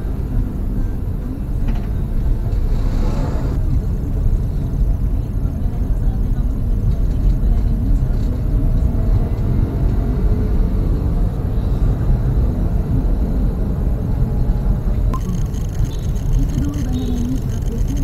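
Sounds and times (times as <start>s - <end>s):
car engine rumble inside cabin: 0.0s - 18.0s
road noise: 0.0s - 18.0s.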